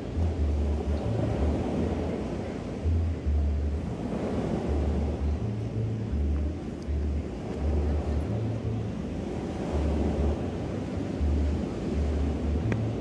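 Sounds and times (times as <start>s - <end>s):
waves washing onto sand: 0.0s - 13.0s
wind rumbling on microphone: 0.0s - 13.0s.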